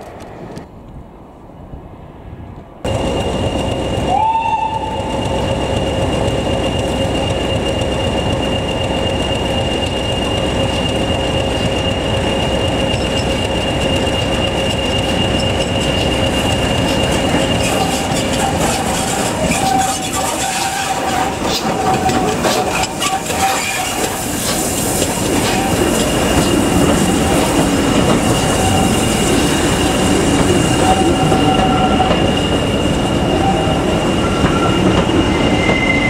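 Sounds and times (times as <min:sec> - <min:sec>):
steam locomotive pulling away: 0:02.9 - 0:36.0.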